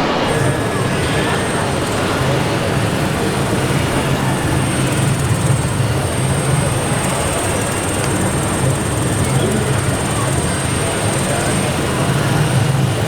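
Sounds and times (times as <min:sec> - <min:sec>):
model construction machines running: 0:00.0 - 0:13.0
thin high whine: 0:00.0 - 0:13.0.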